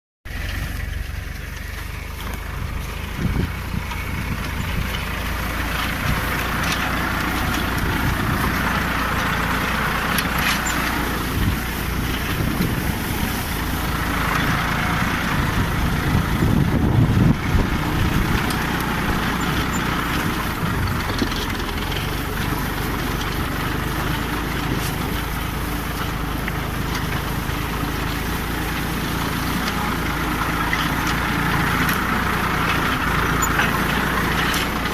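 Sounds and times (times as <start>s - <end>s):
tractor engine running under load: 0.3s - 34.9s.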